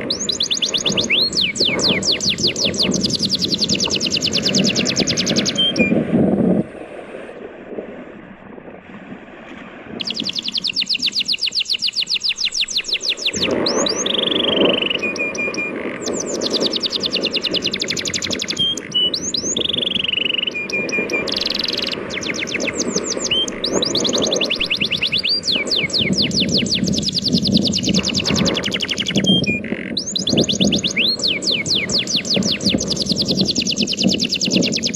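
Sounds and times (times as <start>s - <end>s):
songbird trilling: 0.0s - 6.0s, 10.0s - 34.9s
sea waves: 0.0s - 34.9s.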